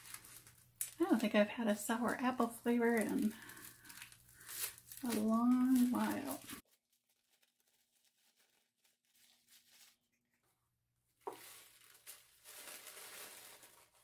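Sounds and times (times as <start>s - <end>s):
tissue paper rustling: 0.0s - 10.4s, 11.2s - 14.0s.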